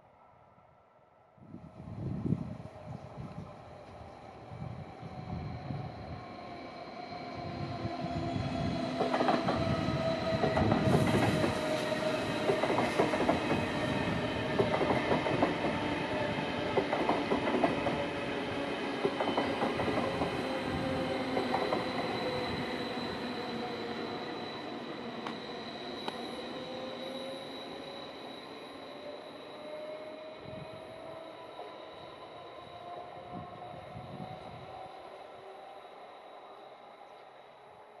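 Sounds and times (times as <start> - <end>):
electric train passing: 0.1 - 38.0.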